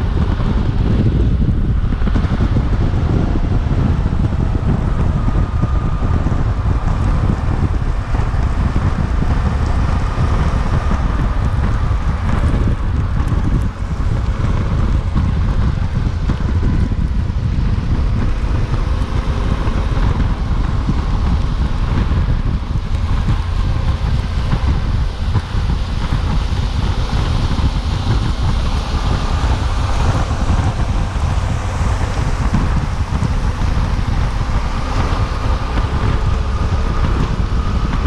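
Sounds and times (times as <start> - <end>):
motorcycle engine running: 0.0 - 38.0
wind noise on microphone: 0.0 - 38.0.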